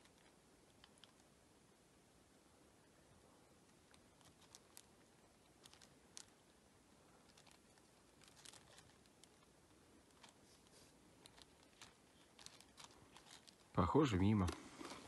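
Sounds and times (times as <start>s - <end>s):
faint light ticks and crackles: 0.0s - 1.4s, 3.5s - 15.0s.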